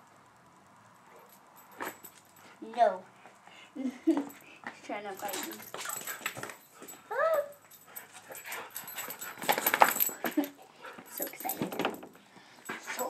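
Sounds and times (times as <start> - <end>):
rustling and scuffling: 1.2 - 3.4, 4.0 - 13.0.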